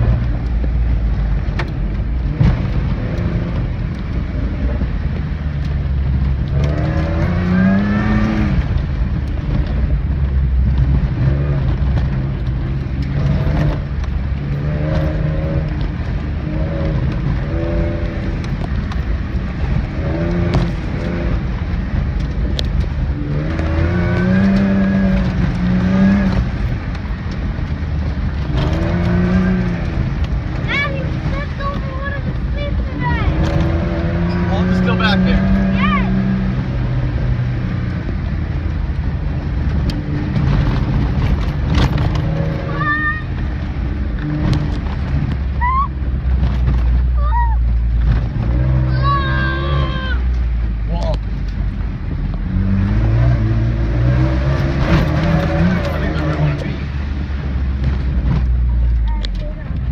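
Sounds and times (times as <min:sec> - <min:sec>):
road and tyre rumble: 0:00.0 - 0:59.9
vehicle engine revving: 0:00.0 - 0:59.9.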